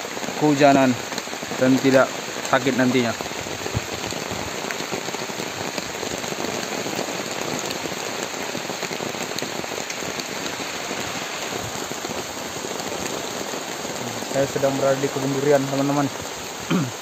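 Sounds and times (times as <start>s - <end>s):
heavy rain on plastic tarpaulin: 0.0s - 17.0s
raindrops ticking sharply: 0.0s - 17.0s.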